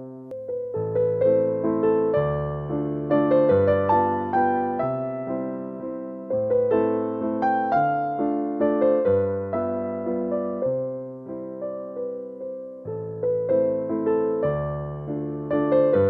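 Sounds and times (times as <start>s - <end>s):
soft electric piano melody: 0.0s - 16.0s.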